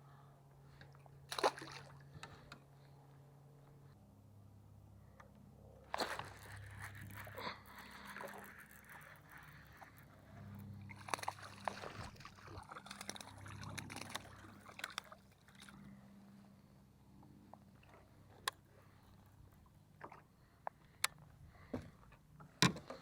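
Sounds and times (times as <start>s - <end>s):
water sloshing against hull: 0.6s - 3.0s, 5.8s - 23.0s.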